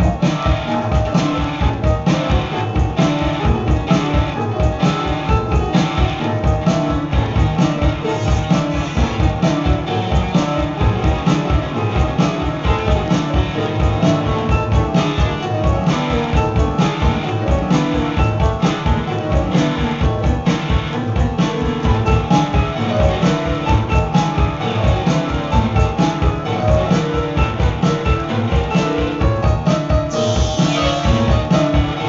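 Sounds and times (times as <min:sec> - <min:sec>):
drum kit beat: 0:00.0 - 0:32.0
electric guitar: 0:00.0 - 0:32.0
keyboards: 0:00.0 - 0:32.0.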